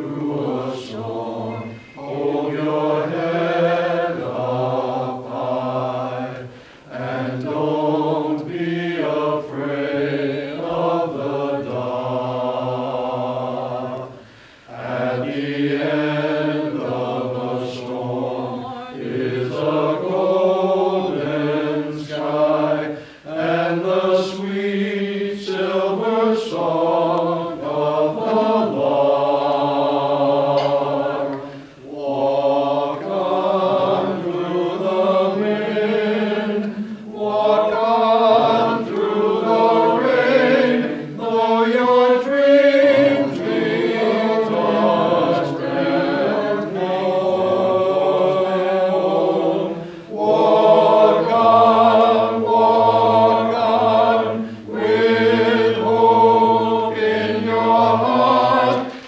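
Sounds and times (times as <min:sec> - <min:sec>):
men's choir singing in harmony: 0:00.0 - 0:59.0.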